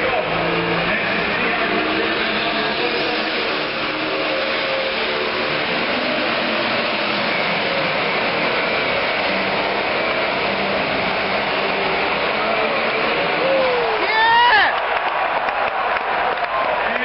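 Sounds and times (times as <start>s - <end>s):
diesel engine roaring: 0.0s - 17.0s.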